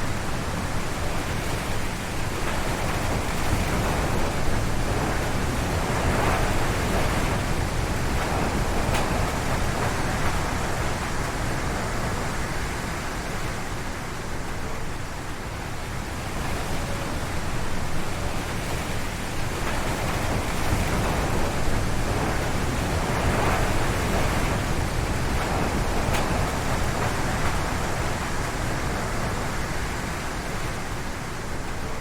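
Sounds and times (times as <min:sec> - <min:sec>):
wind gusting through trees: 0:00.0 - 0:32.0.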